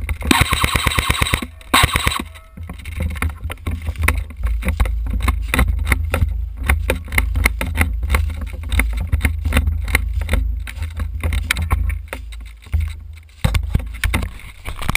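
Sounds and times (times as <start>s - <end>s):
footsteps crunching through dry leaves: 1.4s - 14.9s.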